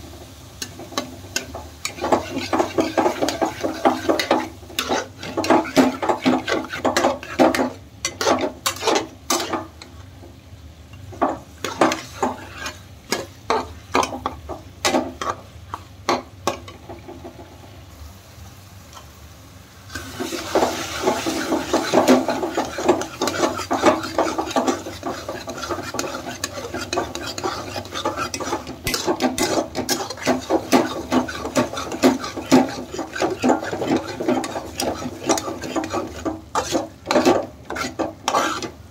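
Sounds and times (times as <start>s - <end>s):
frying sizzle: 0.0s - 38.9s
steel spatula scraping a pan: 0.6s - 9.8s, 11.2s - 15.4s, 19.9s - 38.9s.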